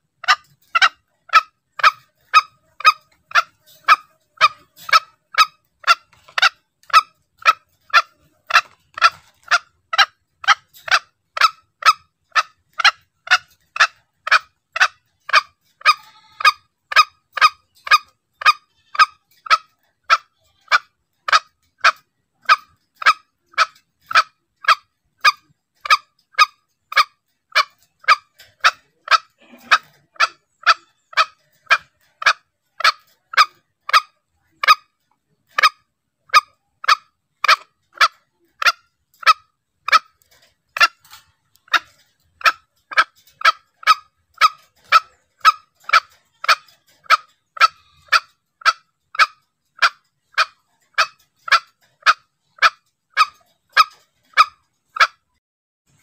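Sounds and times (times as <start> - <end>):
junglefowl calls: 0.0 - 55.3.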